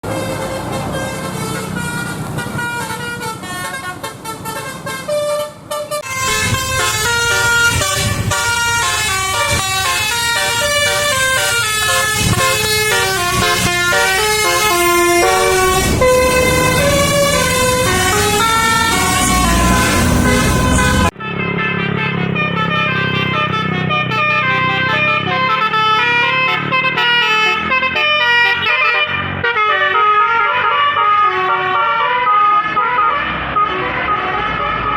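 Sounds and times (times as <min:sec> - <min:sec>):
bus engine rumble: 0:00.0 - 0:34.9
air horn playing quick melody: 0:00.1 - 0:31.9.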